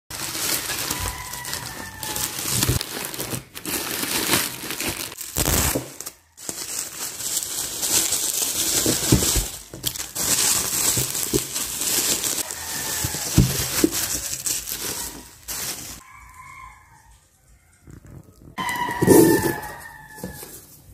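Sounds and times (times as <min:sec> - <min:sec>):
plastic and bubble wrap crinkling: 0:00.1 - 0:20.9.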